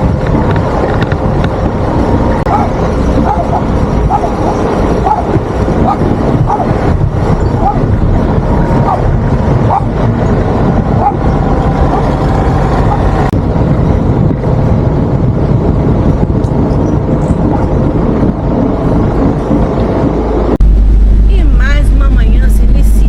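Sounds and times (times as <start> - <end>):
road noise: 0.0 - 23.0
vehicle engine: 0.0 - 23.0.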